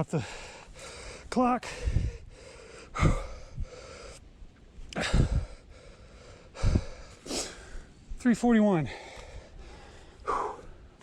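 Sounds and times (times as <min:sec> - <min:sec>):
person breathing hard: 0:00.2 - 0:04.2, 0:05.0 - 0:07.9, 0:08.9 - 0:11.0.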